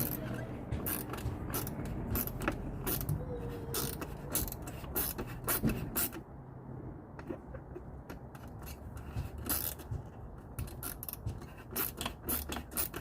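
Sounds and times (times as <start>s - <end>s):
small ratchet clicking: 0.0s - 6.2s, 7.2s - 13.0s.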